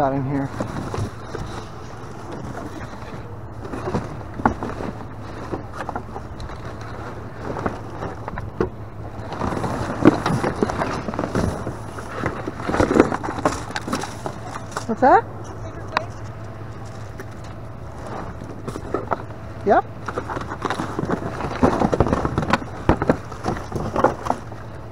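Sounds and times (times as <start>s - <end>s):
items rustling and clattering: 0.0s - 24.9s
steady low hum: 0.0s - 24.9s.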